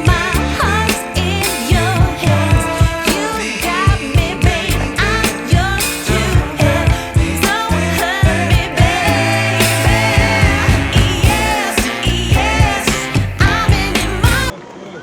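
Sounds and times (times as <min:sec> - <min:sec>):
heavy drum beat: 0:00.0 - 0:14.5
person singing: 0:00.0 - 0:14.5.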